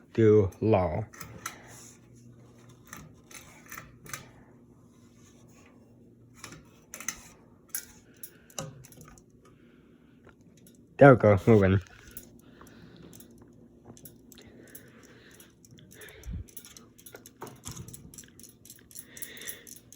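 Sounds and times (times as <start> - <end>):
ceiling fan motor humming: 0.0 - 19.9.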